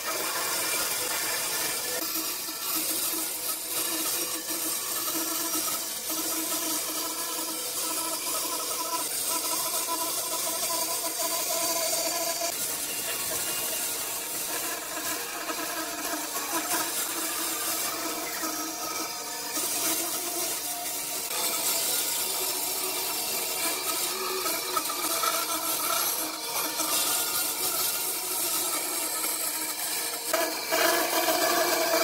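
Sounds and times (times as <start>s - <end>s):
bandsaw cutting wood: 0.0s - 32.0s.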